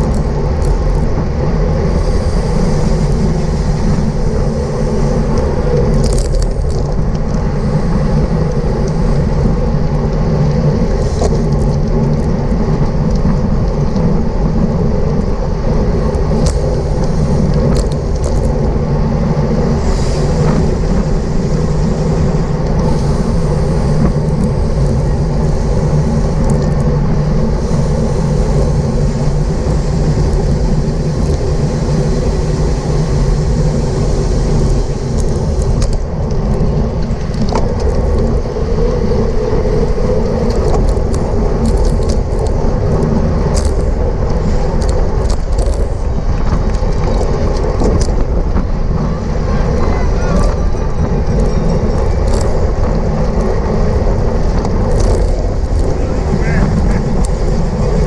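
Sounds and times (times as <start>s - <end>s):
road noise: 0.0s - 58.0s
wind on microphone: 0.0s - 58.0s.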